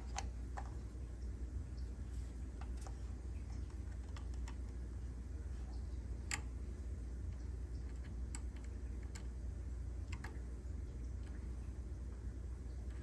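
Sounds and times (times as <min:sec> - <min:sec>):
water heater humming: 0:00.0 - 0:13.0.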